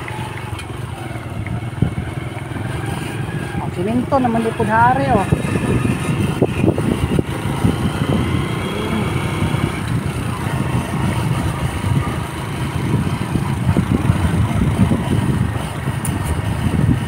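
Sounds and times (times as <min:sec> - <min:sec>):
vehicle engine running: 0:00.0 - 0:17.0
wind rumble on microphone: 0:00.0 - 0:17.0.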